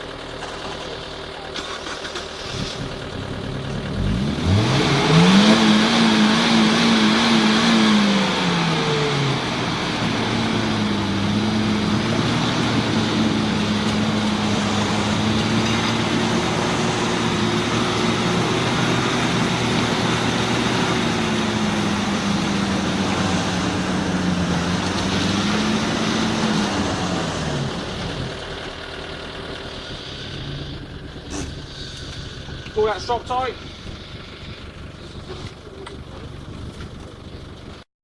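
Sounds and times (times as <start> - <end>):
car engine revving: 0.6 - 37.8.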